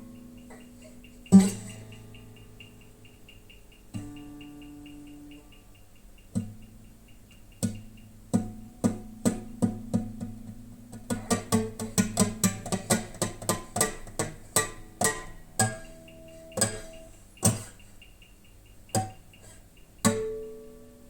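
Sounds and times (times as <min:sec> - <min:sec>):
plucked string instrument: 0:00.0 - 0:05.7, 0:06.3 - 0:17.8, 0:18.9 - 0:21.0.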